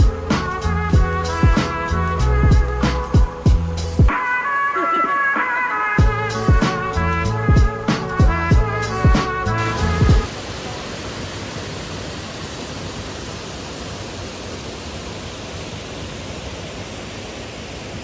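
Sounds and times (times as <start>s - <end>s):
flowing water: 0.0s - 18.0s.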